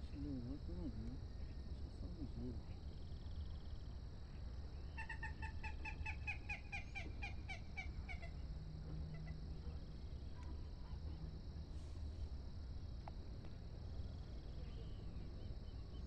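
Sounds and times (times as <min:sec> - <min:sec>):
faint high insect hum: 0:00.0 - 0:16.0
low outdoor rumble: 0:00.0 - 0:16.0.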